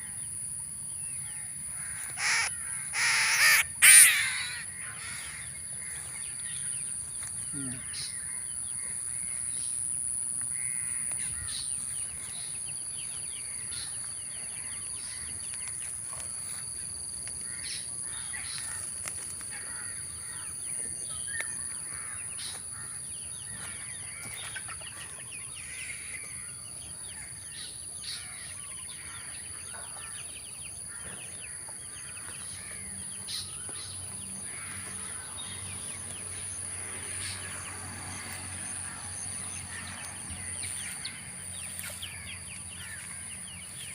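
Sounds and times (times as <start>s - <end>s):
birds chirping and calling: 0.0s - 43.9s.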